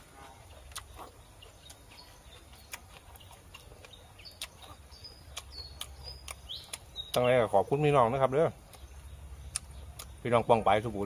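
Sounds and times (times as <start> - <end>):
person chewing: 0.0 - 7.3, 8.6 - 10.2
bird chirps: 0.2 - 11.0.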